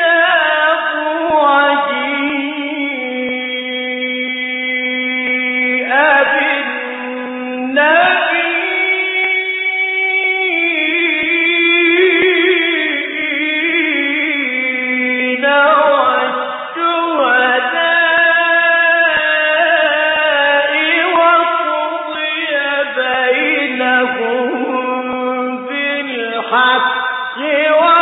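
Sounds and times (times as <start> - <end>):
man chanting recitation: 0.0 - 28.0.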